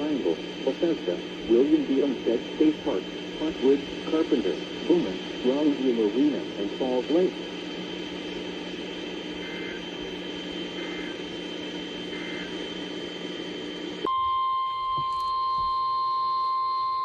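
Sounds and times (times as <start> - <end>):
radio hiss: 0.0 - 14.1
steady warning alarm tone: 0.0 - 17.0.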